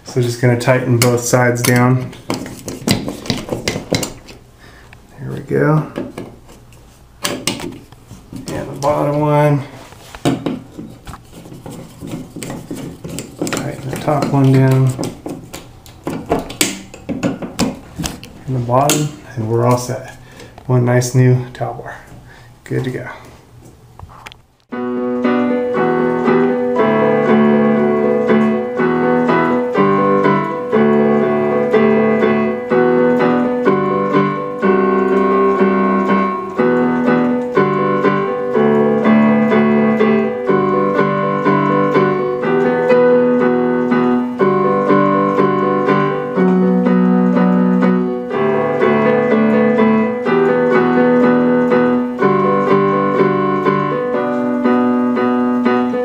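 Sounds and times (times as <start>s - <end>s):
electric piano keyboard music: 0.0s - 4.4s, 8.4s - 21.4s, 24.7s - 56.0s.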